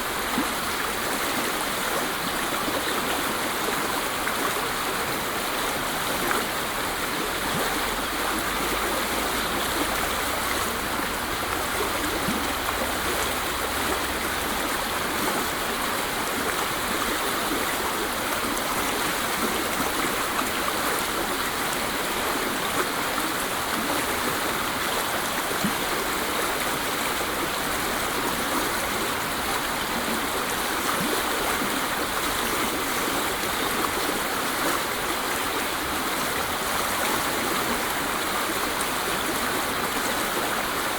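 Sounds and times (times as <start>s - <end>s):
waterfall rushing: 3.3s - 40.9s.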